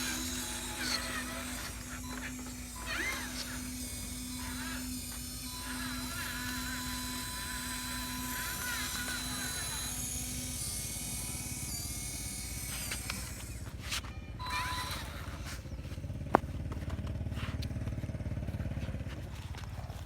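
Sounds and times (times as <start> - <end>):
small electric motor whining: 0.0 - 20.0.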